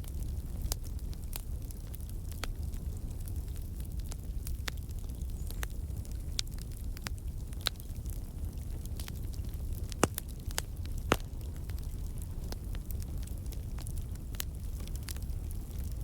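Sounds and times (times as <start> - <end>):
fire crackles and pops: 0.0 - 16.0
fire rumbling: 0.0 - 16.0.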